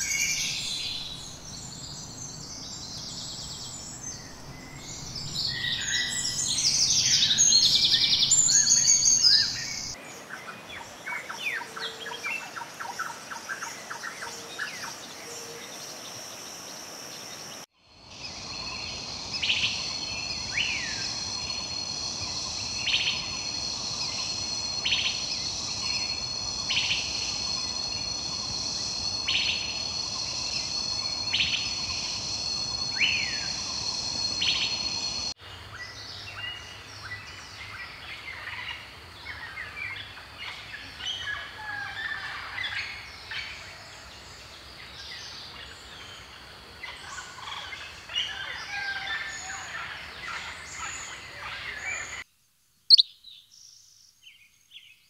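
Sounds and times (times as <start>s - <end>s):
high insect drone: 0.0s - 52.2s.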